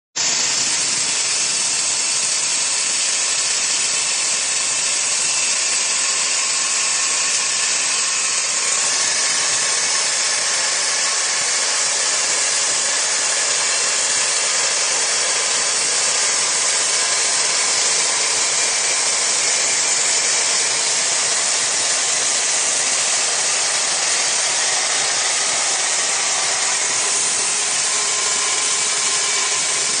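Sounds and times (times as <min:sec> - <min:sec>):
power saw grinding: 0:00.2 - 0:30.0.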